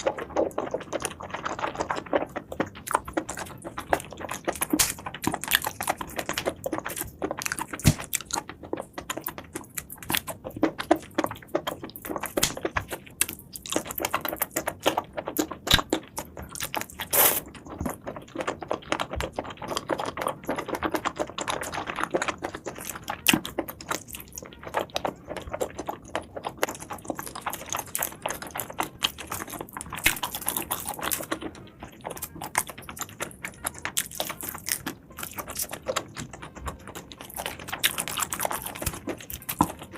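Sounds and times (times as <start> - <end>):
chewing and crunching: 0.0 - 39.9
wet mouth clicks: 0.0 - 39.9.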